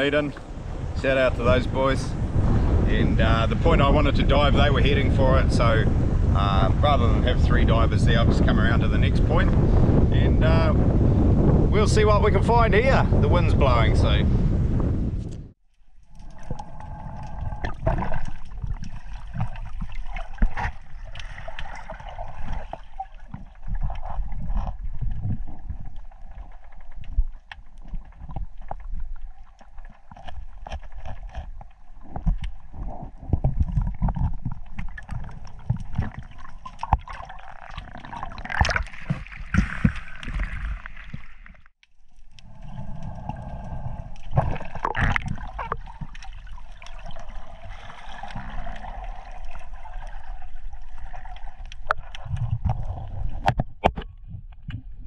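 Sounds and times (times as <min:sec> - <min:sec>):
sea water sloshing and gurgling: 0:00.0 - 0:55.0.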